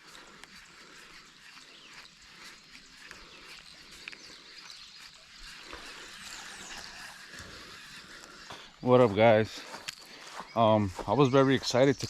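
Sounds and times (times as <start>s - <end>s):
bird chirps and calls: 0.2s - 12.0s.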